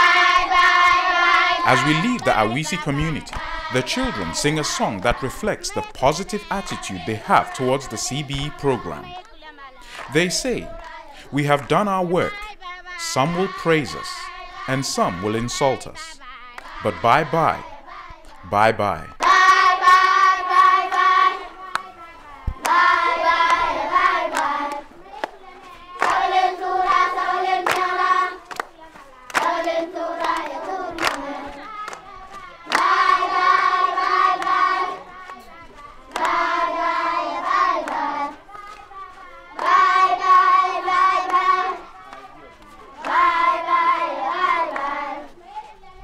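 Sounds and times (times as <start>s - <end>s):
hand claps: 0.0s - 12.4s, 16.5s - 17.6s, 18.2s - 18.4s, 19.0s - 43.7s, 44.4s - 44.9s
children singing: 0.0s - 46.0s.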